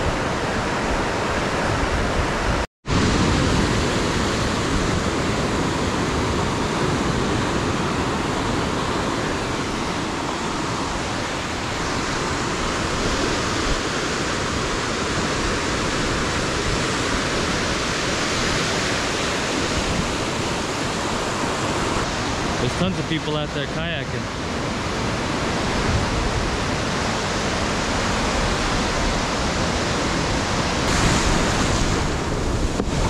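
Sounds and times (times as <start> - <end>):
ocean surf rushing: 0.0 - 33.0.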